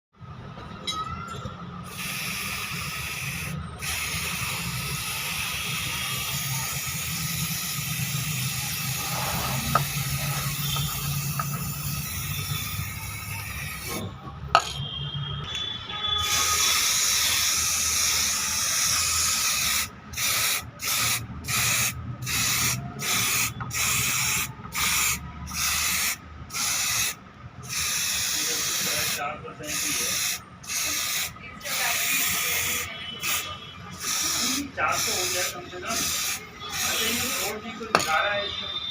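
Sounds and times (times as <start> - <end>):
spray hissing: 1.9 - 14.0, 16.2 - 38.2.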